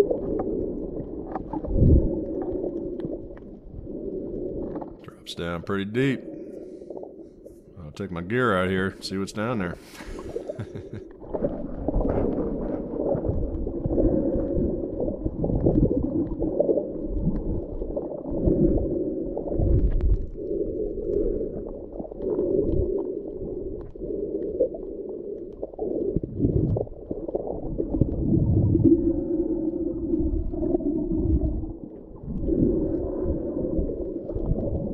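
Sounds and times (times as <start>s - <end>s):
underwater churning rumble: 0.0s - 34.9s
water gurgles: 0.0s - 34.9s.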